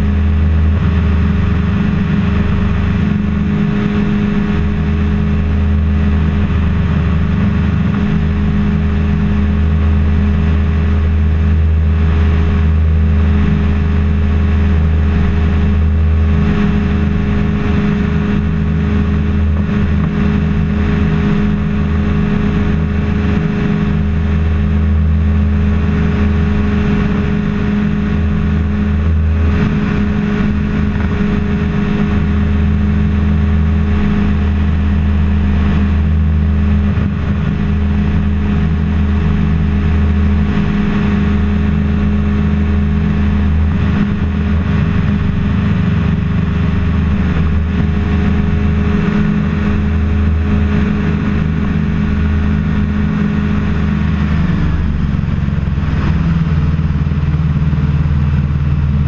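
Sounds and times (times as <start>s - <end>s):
aircraft engine droning: 0.0s - 59.0s.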